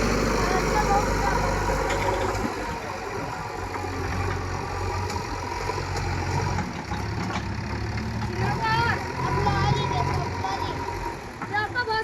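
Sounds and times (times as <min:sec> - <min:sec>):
diesel digger engine running: 0:00.0 - 0:12.0.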